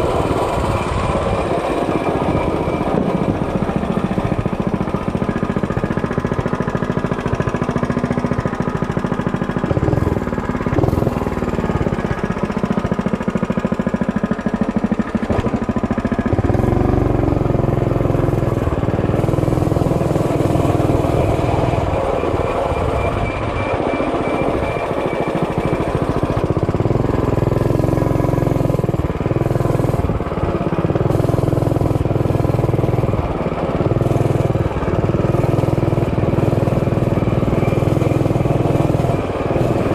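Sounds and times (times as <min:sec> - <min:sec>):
small engine running rattly: 0:00.0 - 0:39.9.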